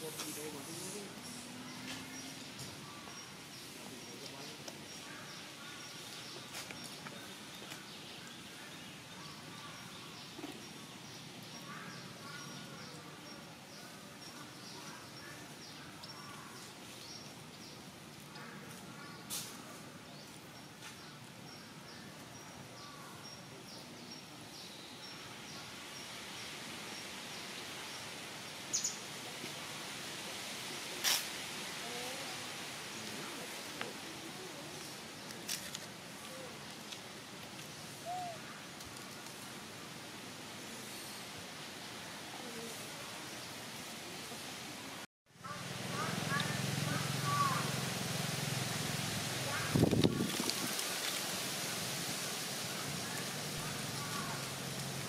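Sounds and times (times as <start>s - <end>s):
steady outdoor hiss: 0.0s - 55.0s.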